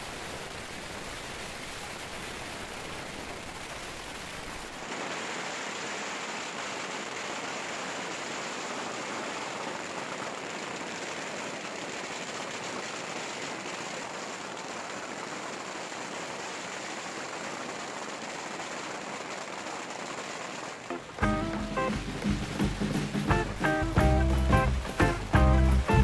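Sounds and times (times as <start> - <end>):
firecrackers crackling: 0.0 - 26.0.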